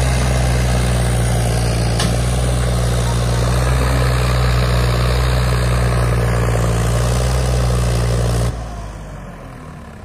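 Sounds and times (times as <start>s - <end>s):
tractor diesel engine straining: 0.0s - 10.0s.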